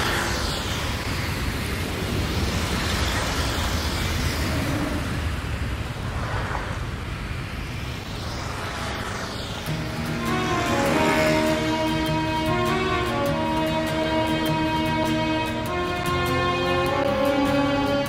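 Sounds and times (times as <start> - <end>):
vehicle engines: 0.0 - 18.0.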